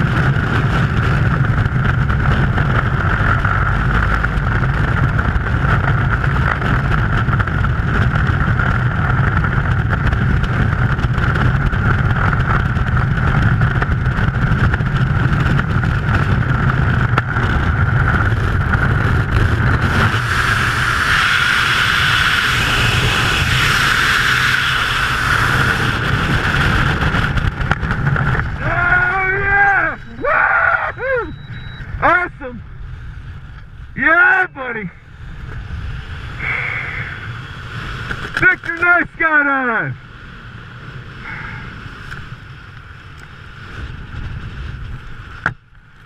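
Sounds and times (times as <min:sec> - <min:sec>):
wind rumble on microphone: 0:00.0 - 0:46.0.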